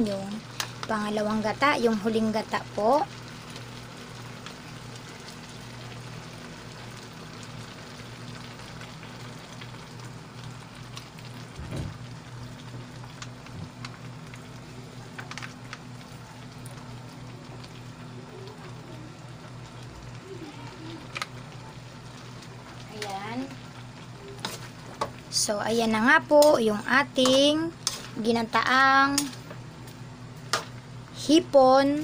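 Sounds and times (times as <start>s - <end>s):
food simmering crackling hiss: 0.0s - 32.0s
low steady hum: 0.0s - 32.0s.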